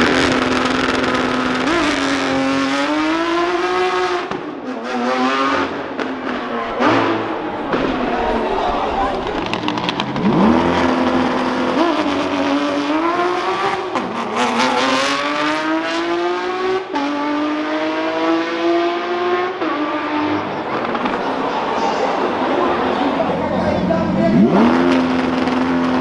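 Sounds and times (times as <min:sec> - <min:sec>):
sports car engine accelerating: 0:00.0 - 0:26.0.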